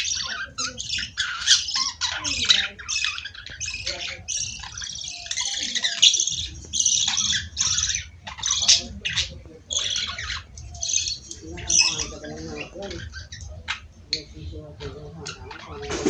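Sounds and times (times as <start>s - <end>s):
budgerigars chattering and chirping: 0.0s - 16.0s.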